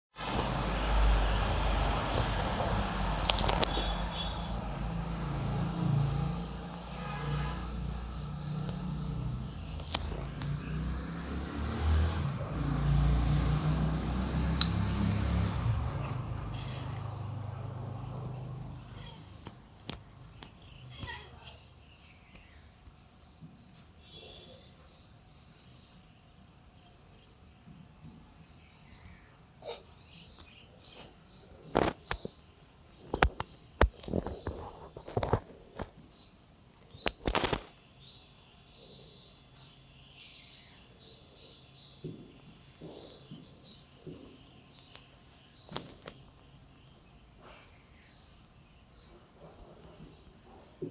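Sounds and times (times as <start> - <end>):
insects droning: 0.2 - 50.9.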